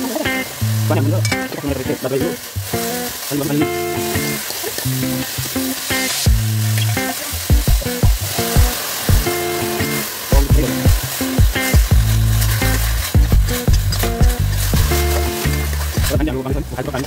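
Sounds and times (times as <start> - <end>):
background music with bass beat: 0.0 - 17.0
food sizzling in a wok: 0.0 - 17.0.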